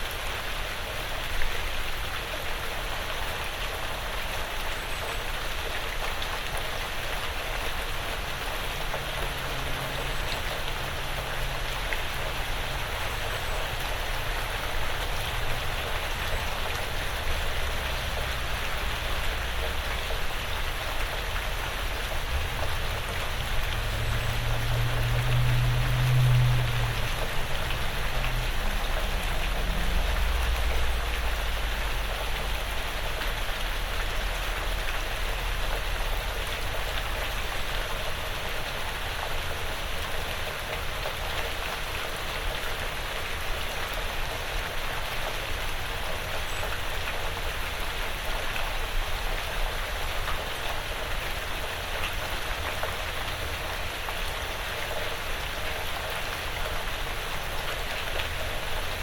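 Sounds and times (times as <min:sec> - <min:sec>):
rain on a porch roof: 0:00.0 - 0:59.0.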